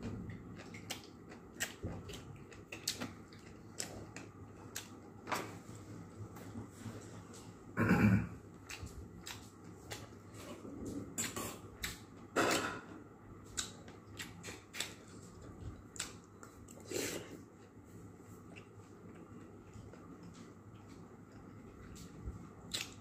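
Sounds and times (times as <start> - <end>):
chewing: 0.3 - 5.1, 8.5 - 12.6, 13.4 - 23.0.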